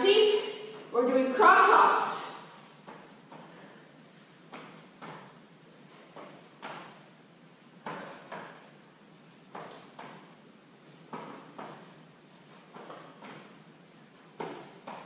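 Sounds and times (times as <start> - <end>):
feet thudding on exercise mat: 2.5 - 15.0.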